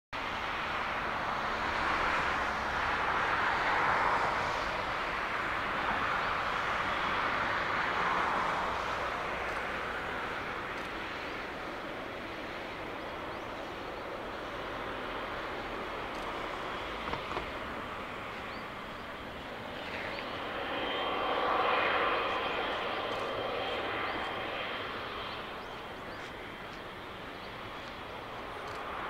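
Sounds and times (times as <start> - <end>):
jet engines roaring: 0.2 - 29.0.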